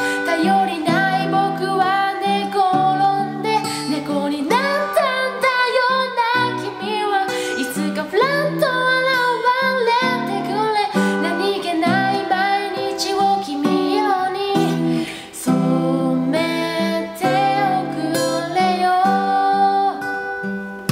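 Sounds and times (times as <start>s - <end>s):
person singing a pop ballad: 0.0s - 20.9s
strummed acoustic guitar: 0.0s - 20.9s.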